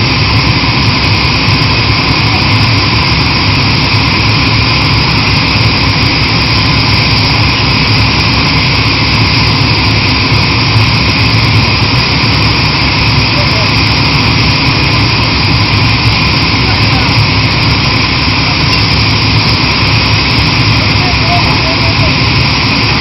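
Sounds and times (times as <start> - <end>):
well drilling rig running: 0.0 - 23.0.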